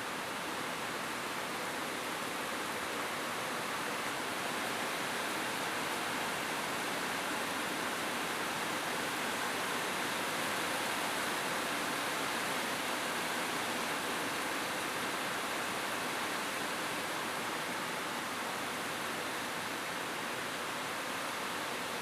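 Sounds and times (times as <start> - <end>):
rain falling on a roof: 0.0 - 22.0.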